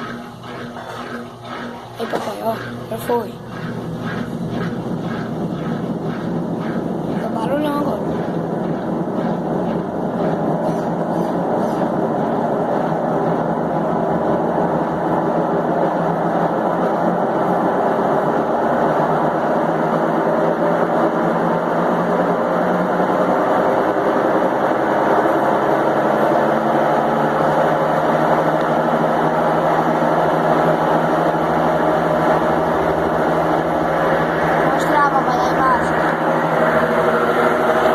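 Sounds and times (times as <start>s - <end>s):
washing machine spinning: 0.0s - 37.9s.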